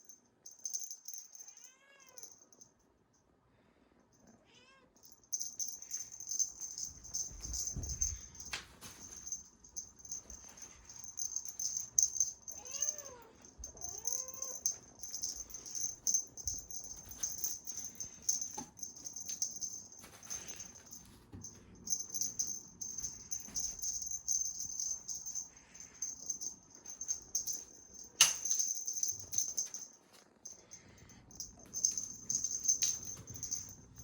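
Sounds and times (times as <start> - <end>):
cat toy rattling: 5.0 - 34.0.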